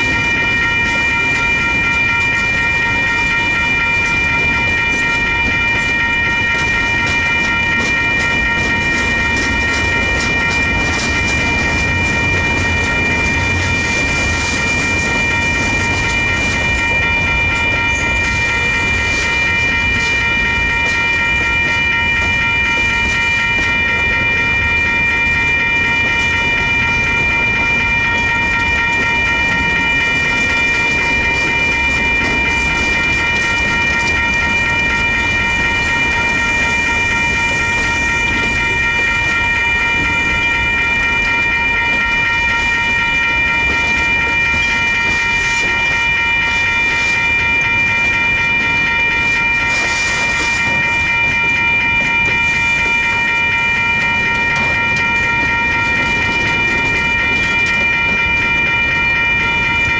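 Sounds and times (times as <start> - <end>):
crossing warning bell ringing: 0.0 - 59.9
wheels rumbling on rail: 0.0 - 59.9.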